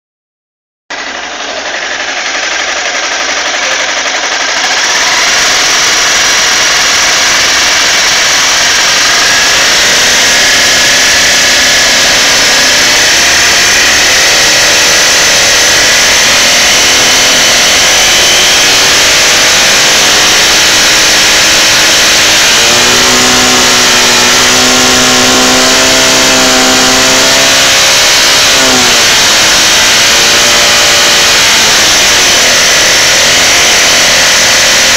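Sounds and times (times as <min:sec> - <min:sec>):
motorcycle engine revving: 0:00.9 - 0:34.9.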